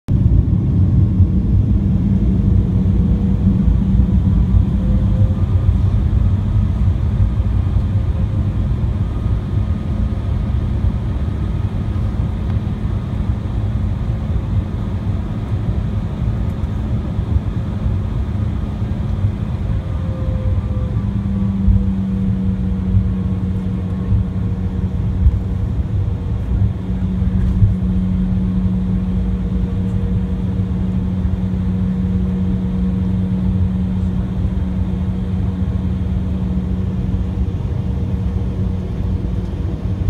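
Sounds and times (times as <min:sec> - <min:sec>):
faint engine whine: 0:00.1 - 0:40.0
jet engine low rumble: 0:00.1 - 0:40.0.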